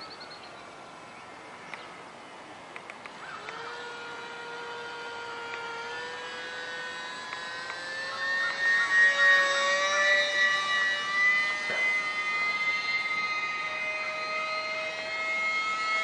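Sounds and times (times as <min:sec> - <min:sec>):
toy boat motor and propeller whining: 0:03.1 - 0:16.0.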